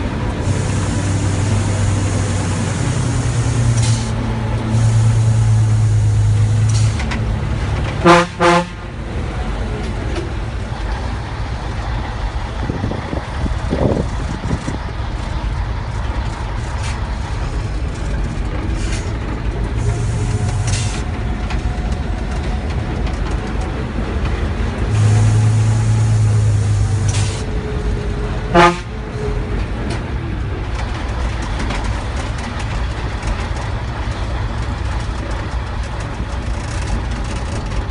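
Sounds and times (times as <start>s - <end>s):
truck diesel engine rumble: 0.0s - 37.9s.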